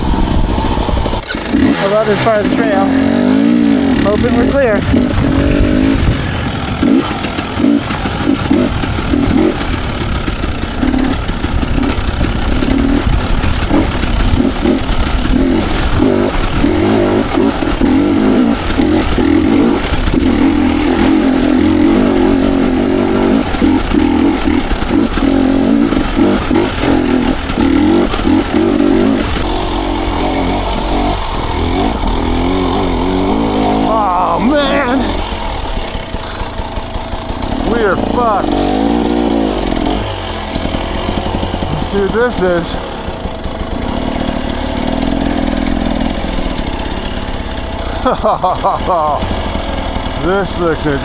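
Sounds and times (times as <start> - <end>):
bike rattles and knocks: 0.0 - 51.0
dirt bike engine revving: 0.0 - 51.0.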